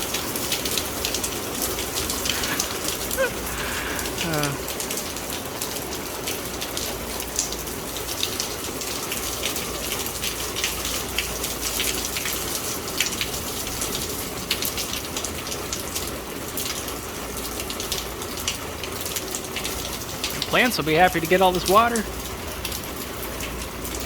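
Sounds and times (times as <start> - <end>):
heavy rain pouring: 0.0 - 24.0
close raindrop hits: 0.1 - 24.0.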